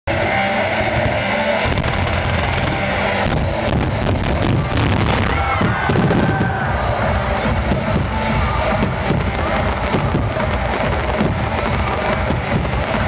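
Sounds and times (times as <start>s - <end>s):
loud music: 0.1s - 13.0s
fireworks bursting: 0.8s - 13.0s.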